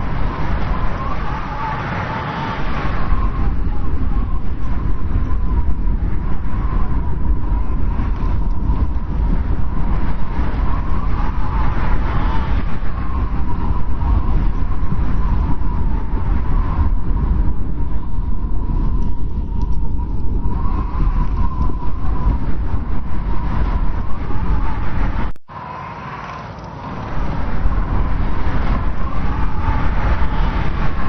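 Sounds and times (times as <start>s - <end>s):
blizzard wind whistling: 0.0s - 31.0s.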